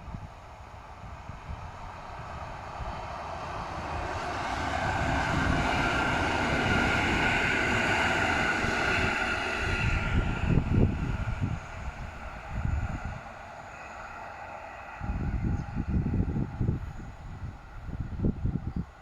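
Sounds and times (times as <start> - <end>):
train whine: 0.0 - 19.0.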